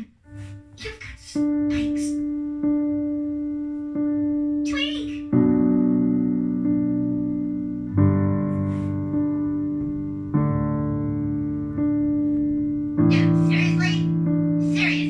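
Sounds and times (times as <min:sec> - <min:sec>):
electronic keyboard piano ballad: 0:01.7 - 0:15.0.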